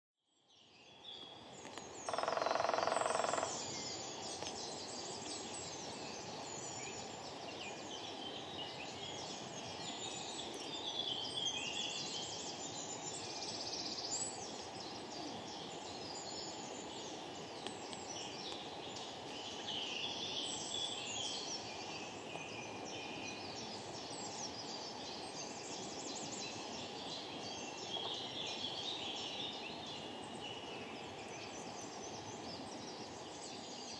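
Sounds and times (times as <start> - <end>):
small birds twittering: 0.4 - 33.9.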